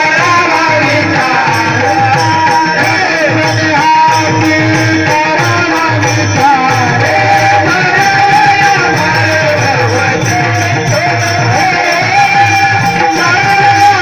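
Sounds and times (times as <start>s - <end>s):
wavering devotional melody: 0.0s - 14.0s.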